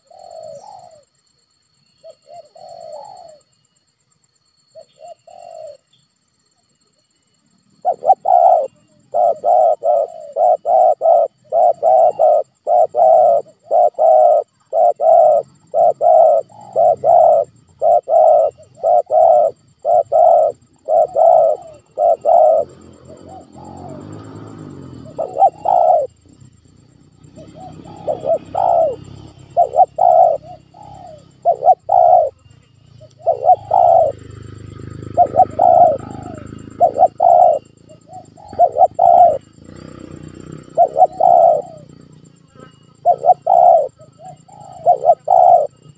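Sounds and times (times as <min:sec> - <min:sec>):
dove cooing: 0:00.0 - 0:01.1, 0:02.0 - 0:03.5, 0:04.7 - 0:05.9, 0:07.8 - 0:45.9.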